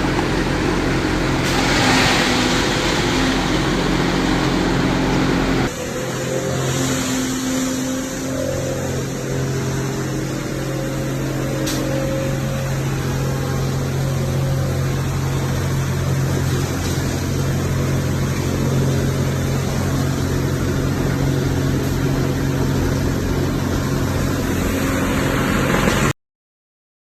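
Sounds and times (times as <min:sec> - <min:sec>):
machine grinding: 0:00.0 - 0:26.1
low motor hum: 0:00.0 - 0:26.2.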